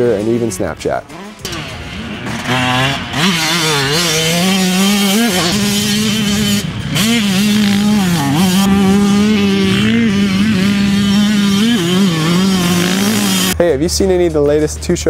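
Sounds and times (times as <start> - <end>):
two-stroke engine revving: 0.0 - 13.6.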